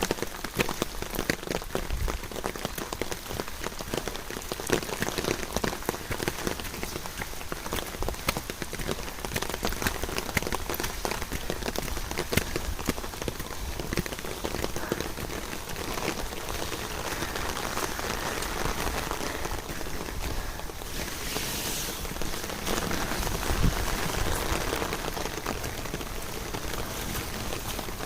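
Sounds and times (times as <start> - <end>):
sharp raindrop ticks: 0.0 - 21.2, 22.0 - 28.0
steady rain falling: 0.0 - 28.0.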